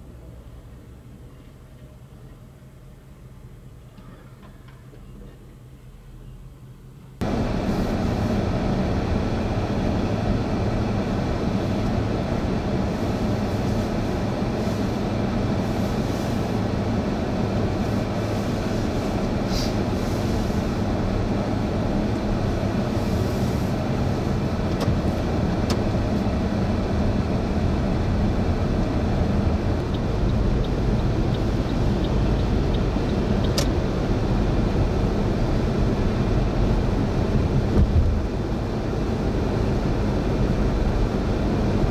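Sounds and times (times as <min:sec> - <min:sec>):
vehicle road and engine noise: 0:00.0 - 0:41.9.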